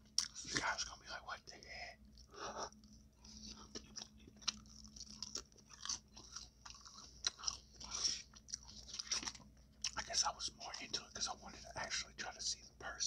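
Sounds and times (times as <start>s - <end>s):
chewing and crunching taco: 0.0s - 12.0s.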